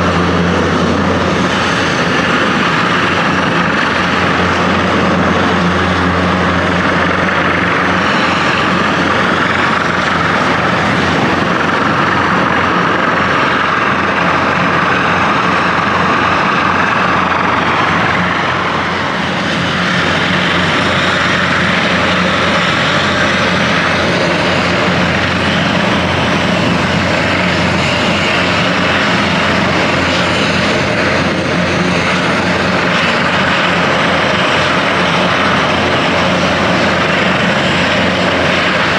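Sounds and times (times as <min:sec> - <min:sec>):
helicopter rotors droning: 0:00.0 - 0:38.9
helicopter turbine whine: 0:00.0 - 0:38.9.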